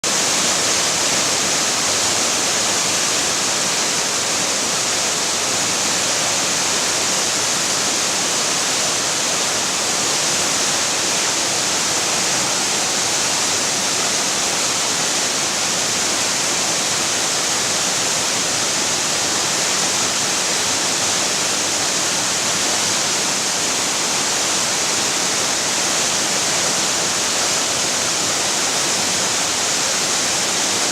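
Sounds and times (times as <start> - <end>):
waterfall splashing: 0.0 - 30.9.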